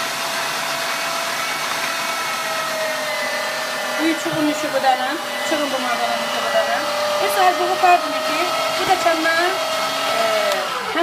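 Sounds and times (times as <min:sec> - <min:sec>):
electric meat grinder humming: 0:00.0 - 0:11.0.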